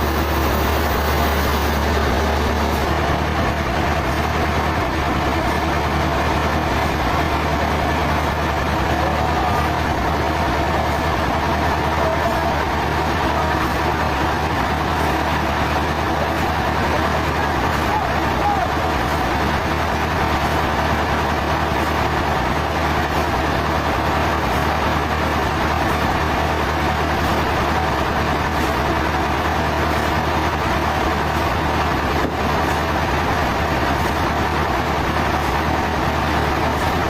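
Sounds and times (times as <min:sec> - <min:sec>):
heavy engine humming: 0:00.0 - 0:37.0.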